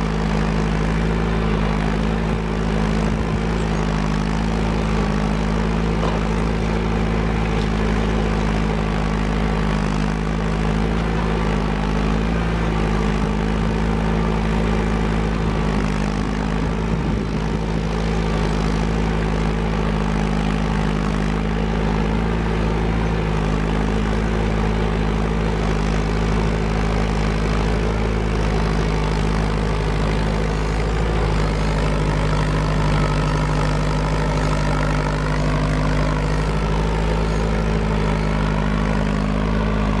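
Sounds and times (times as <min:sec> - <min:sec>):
tractor engine running under load: 0:00.0 - 0:40.0.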